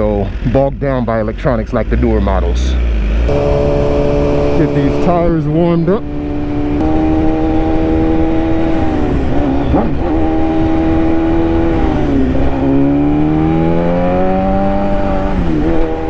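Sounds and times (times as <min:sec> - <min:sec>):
motorcycle engine revving: 0:01.4 - 0:16.0.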